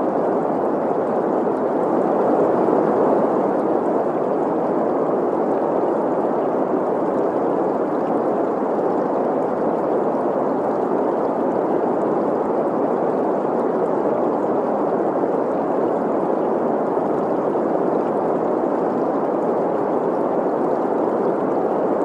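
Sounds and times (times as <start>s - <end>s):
stream water flowing: 0.0s - 22.0s.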